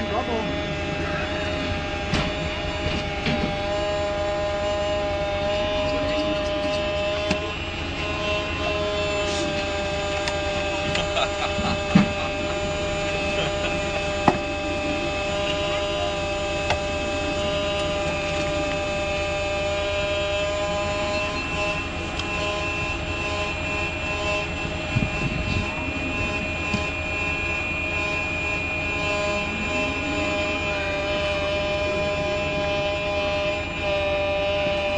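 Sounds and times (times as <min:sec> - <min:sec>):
electric whine of model machinery: 0:00.0 - 0:34.9.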